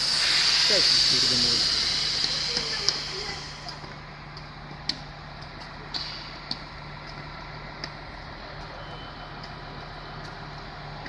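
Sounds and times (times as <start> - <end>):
train hum and hiss: 0.0 - 11.0.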